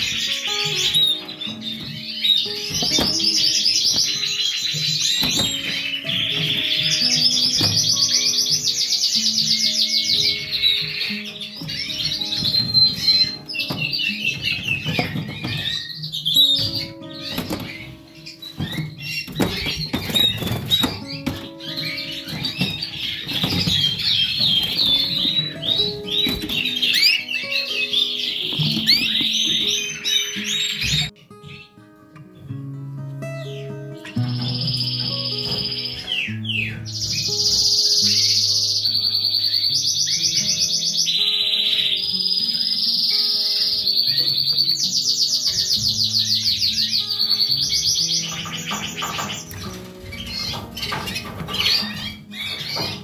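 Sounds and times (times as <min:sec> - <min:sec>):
canaries singing: 0:00.0 - 0:53.0
plucked guitar-like music: 0:00.0 - 0:53.0.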